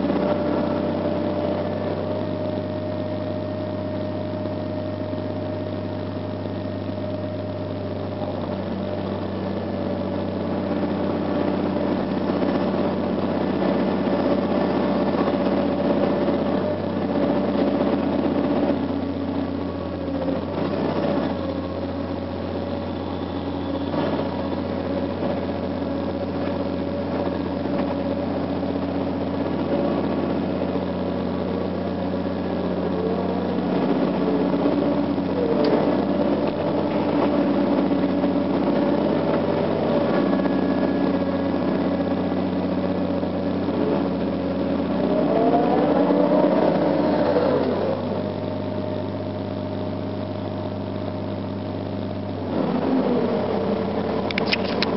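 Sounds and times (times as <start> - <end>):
excavator diesel engine running: 0.0 - 54.9
hydraulic whines: 0.0 - 54.9.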